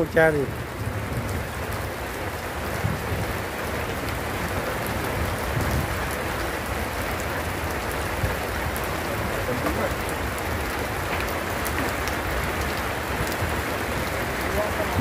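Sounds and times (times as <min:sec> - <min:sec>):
rain falling on pond water: 0:00.0 - 0:15.0.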